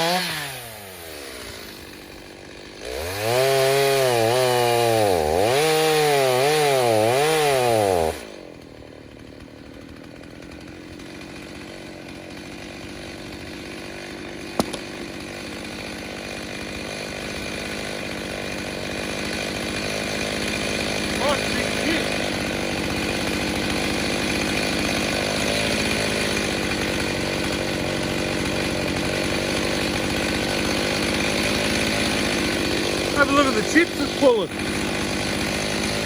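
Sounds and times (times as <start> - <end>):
chainsaw idling: 0.0 - 36.0
chainsaw revving under load: 0.0 - 36.0.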